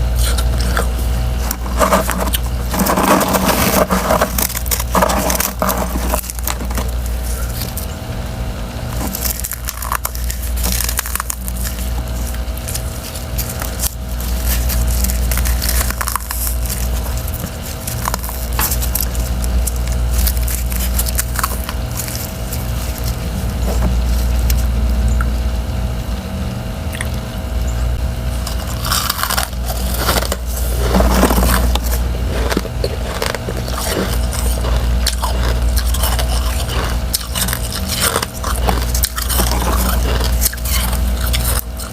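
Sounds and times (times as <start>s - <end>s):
chewing crunchy ice: 0.0s - 25.4s, 26.9s - 41.9s
steady low hum: 0.0s - 41.9s.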